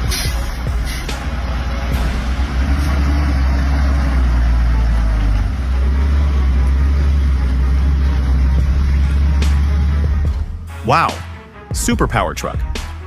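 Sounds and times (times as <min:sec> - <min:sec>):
heavy truck engine droning: 0:00.0 - 0:13.0
road noise: 0:00.0 - 0:13.0.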